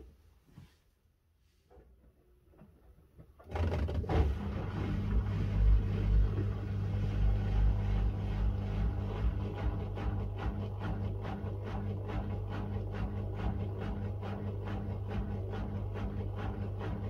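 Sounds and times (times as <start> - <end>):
washing machine motor humming: 3.2 - 17.0.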